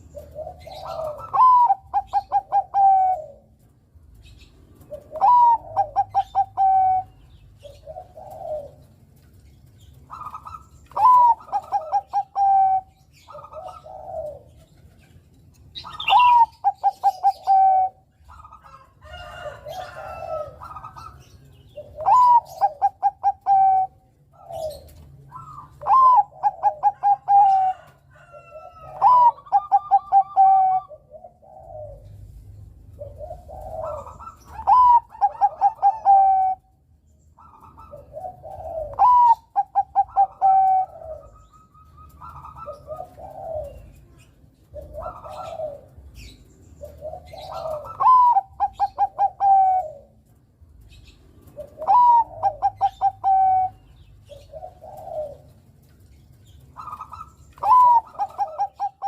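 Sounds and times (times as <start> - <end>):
dove cooing song: 0.0 - 59.0.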